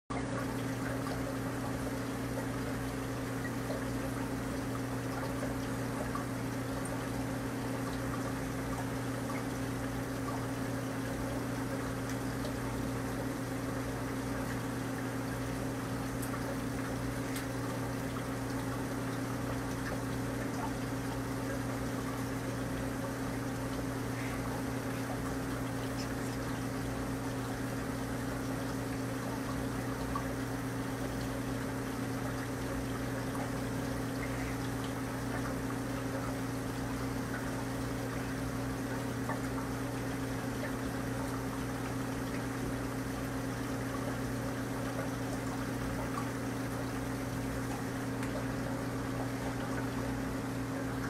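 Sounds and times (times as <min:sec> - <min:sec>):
water pouring and trickling: 0:00.1 - 0:51.0.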